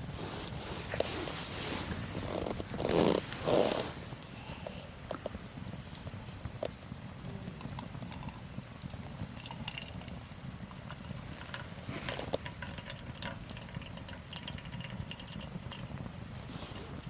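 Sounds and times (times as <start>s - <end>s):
campfire crackling: 0.0s - 17.0s
low steady rumble: 0.0s - 17.0s.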